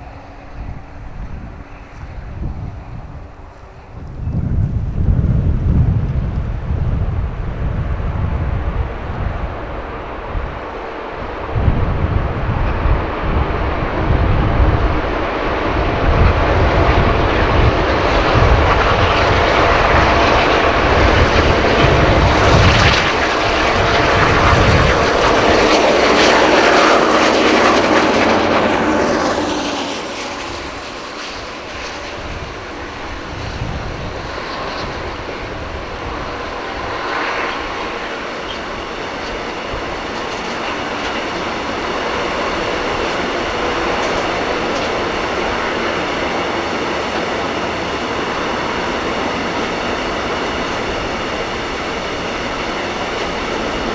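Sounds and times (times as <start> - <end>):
diesel locomotives under full power: 0.0 - 53.9.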